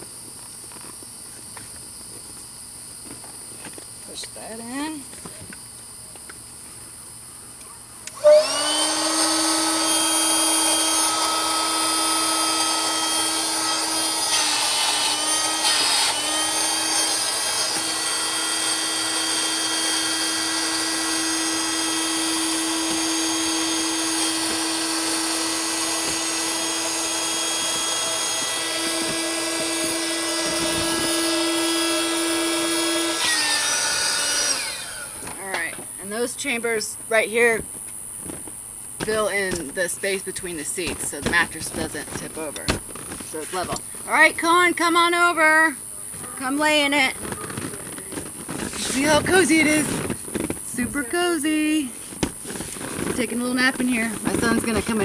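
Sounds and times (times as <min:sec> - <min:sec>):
electric air pump humming: 0:07.6 - 0:55.0.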